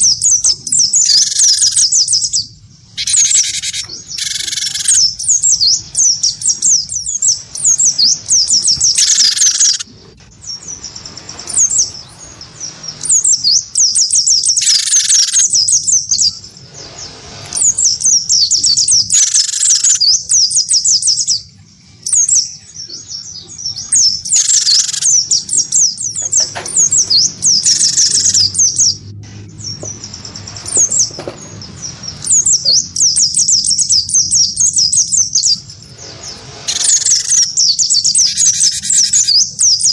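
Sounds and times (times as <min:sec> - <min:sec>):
fuller bird calls: 0:00.0 - 0:39.9
songbirds chirping and twittering: 0:00.0 - 0:39.9.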